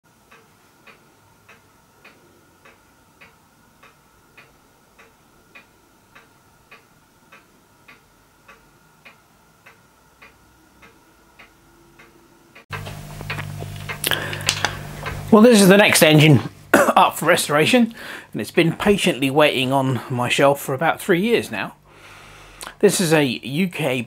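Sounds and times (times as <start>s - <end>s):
clock ticking: 0.1s - 21.8s.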